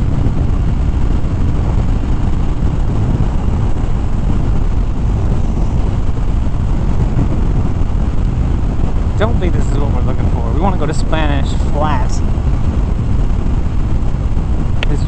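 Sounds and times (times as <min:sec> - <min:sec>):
motorcycle engine cruising: 0:00.0 - 0:15.0
wind on microphone: 0:00.0 - 0:15.0.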